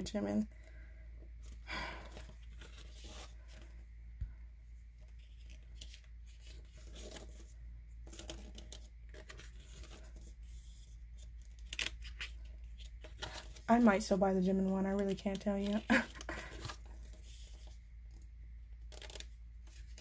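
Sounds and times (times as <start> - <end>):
faint low hum: 0.0 - 20.0
paper pages rustling and flicking: 1.4 - 3.8, 5.0 - 14.0, 14.6 - 18.2, 18.8 - 20.0.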